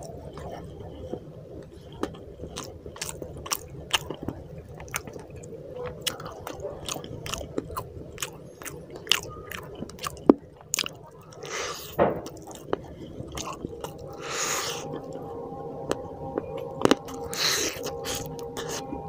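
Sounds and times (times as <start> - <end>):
close chewing with wet mouth clicks: 1.6 - 15.2, 16.4 - 18.8.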